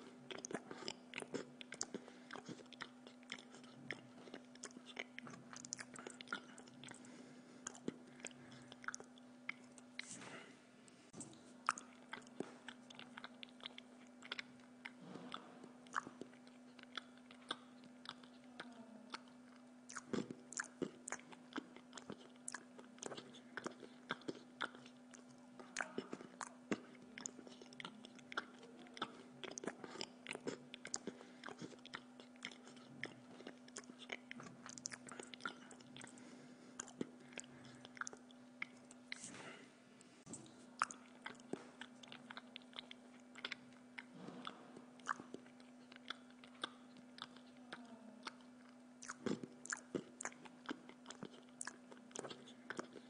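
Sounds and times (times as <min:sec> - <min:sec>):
person chewing pizza: 0:00.0 - 0:53.0
steady low hum: 0:00.0 - 0:53.0.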